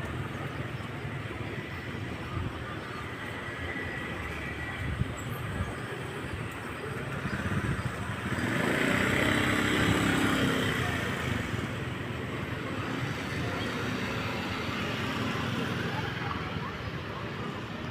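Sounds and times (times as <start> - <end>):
background traffic: 0.0 - 17.9.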